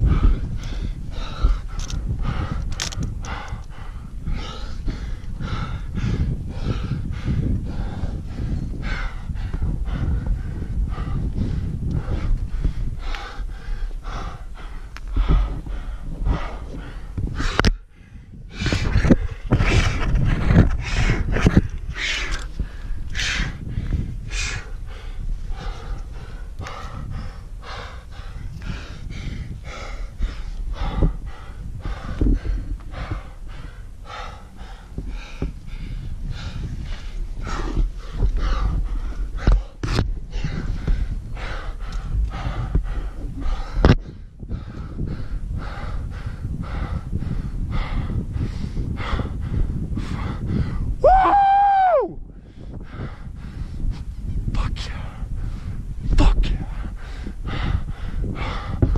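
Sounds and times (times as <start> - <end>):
person breathing hard: 0.0 - 51.1, 51.9 - 58.9.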